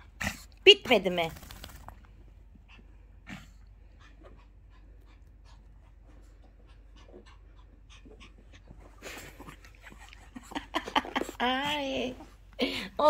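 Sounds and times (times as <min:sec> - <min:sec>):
dog panting quickly: 0:01.2 - 0:11.9.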